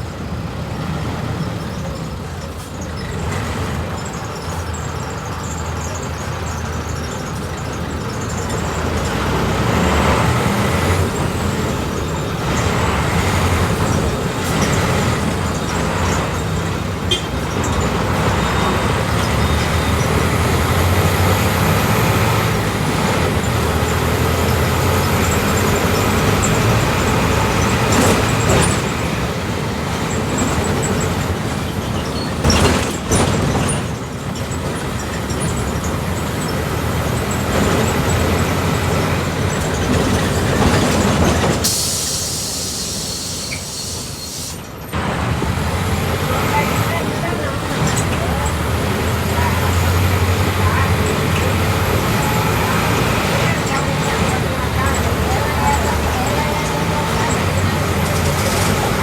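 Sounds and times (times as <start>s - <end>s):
bus body rattling: 0.0s - 59.0s
bus diesel engine running: 0.0s - 59.0s.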